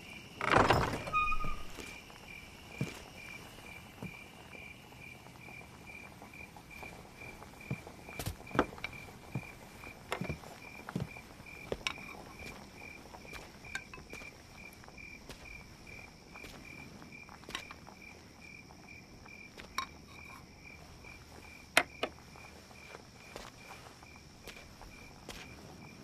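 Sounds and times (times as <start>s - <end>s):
cricket chirping: 0.0s - 26.0s
high insect trill: 0.0s - 26.0s.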